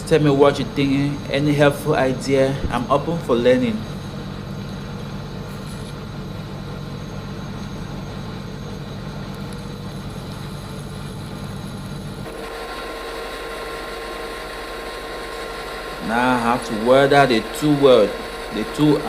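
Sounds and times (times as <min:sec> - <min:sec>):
low mechanical hum: 0:00.0 - 0:19.0
thin high steady tone: 0:00.1 - 0:19.0.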